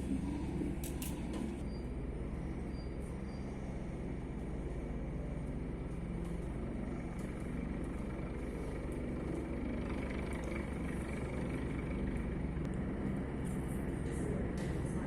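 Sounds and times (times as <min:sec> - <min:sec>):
helicopter rotor beating: 0:00.0 - 0:14.6.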